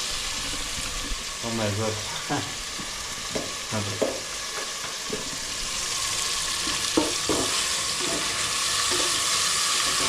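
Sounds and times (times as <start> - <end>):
food sizzling in a hot pan: 0.0 - 10.0.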